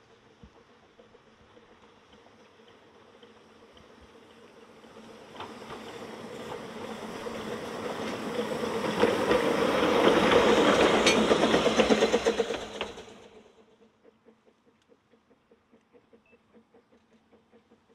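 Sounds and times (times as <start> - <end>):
steam locomotive exhaust beats: 0.0 - 17.9
train wheel rumble: 0.0 - 17.9.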